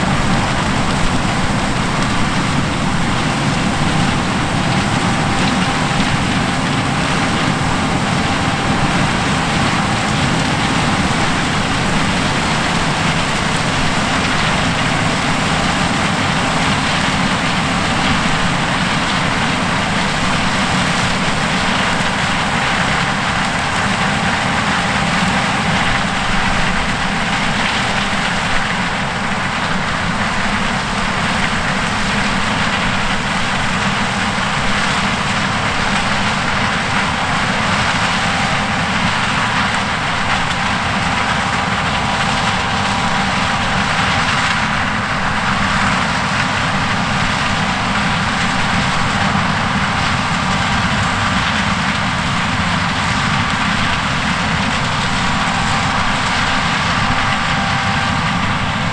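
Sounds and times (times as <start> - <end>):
combine harvester machinery noise: 0.0 - 58.9
faint steady whine: 0.0 - 58.9.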